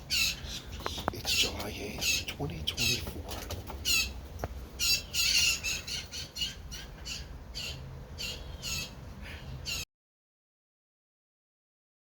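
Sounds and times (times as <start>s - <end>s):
blue jays squawking: 0.0s - 9.8s.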